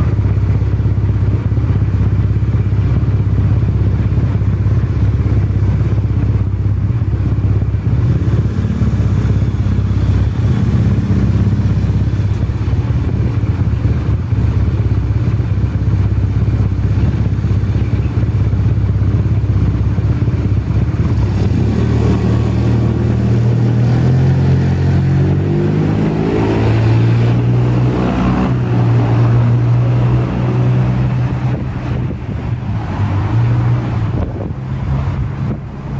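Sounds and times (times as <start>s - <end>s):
engine running: 0.0s - 35.9s.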